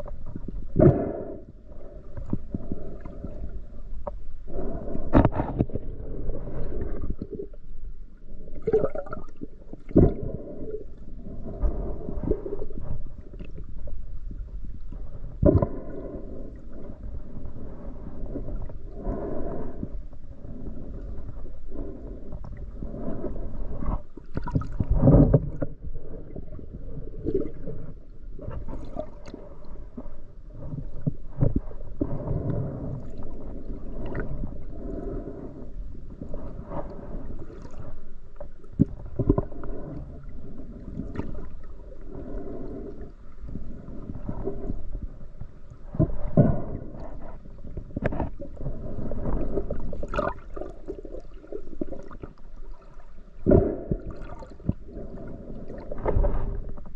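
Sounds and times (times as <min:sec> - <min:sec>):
muffled water sloshing: 0:00.0 - 0:56.9.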